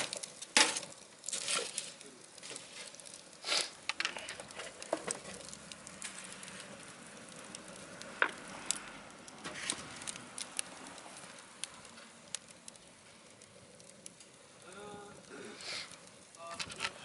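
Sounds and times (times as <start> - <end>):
fire crackling and popping: 0.0 - 17.0
wood fire hissing: 0.0 - 17.0.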